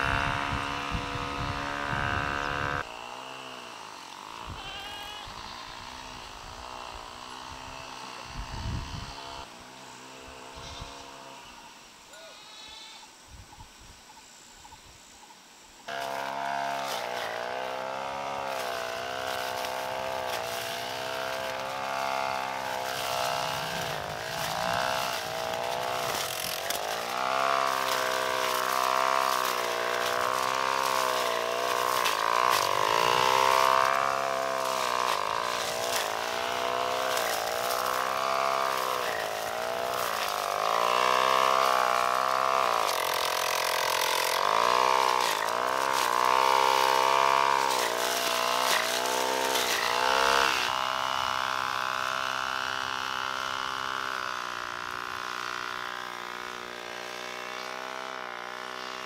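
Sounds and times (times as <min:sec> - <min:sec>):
small engine running: 0:00.0 - 0:12.0, 0:15.9 - 0:59.0.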